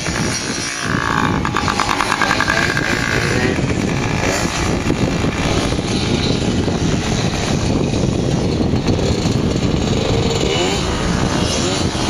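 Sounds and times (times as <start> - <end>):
dirt bike engine: 0.0 - 12.0.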